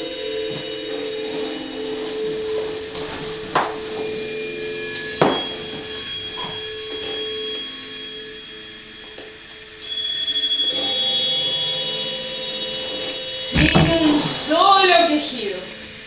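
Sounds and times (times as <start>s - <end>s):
steady humming tones: 0.0s - 16.0s.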